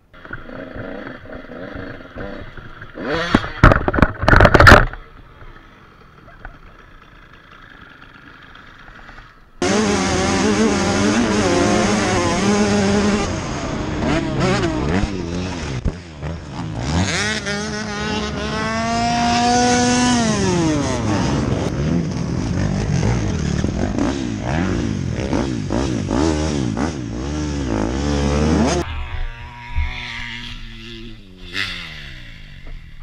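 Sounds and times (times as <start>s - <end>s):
dirt bike engines revving: 0.0s - 33.0s
passing motorbike engine: 0.1s - 33.0s.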